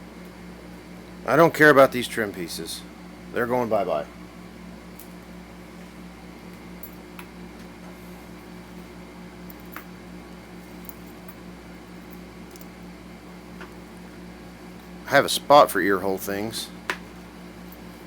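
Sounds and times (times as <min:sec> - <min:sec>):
fan humming: 0:00.0 - 0:18.0.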